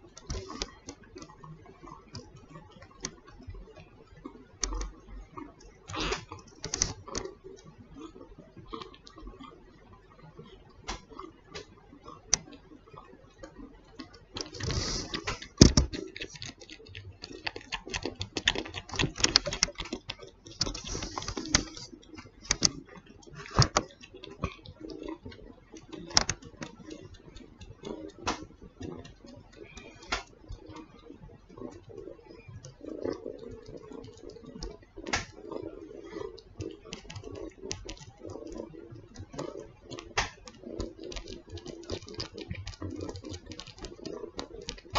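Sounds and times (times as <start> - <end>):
kitten suckling wet clicks: 0.0 - 9.8, 10.9 - 44.9.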